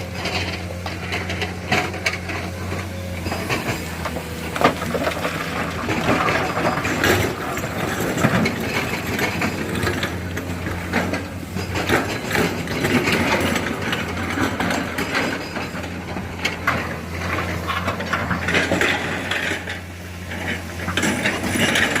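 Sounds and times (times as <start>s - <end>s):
excavator diesel engine running: 0.0s - 22.0s
rocks clattering in bucket: 0.4s - 22.0s.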